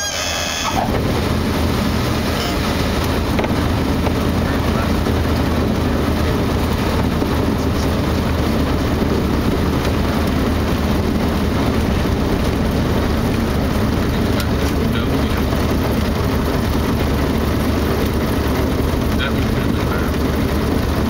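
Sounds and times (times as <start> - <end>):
airplane engine and propeller drone: 0.0 - 21.0.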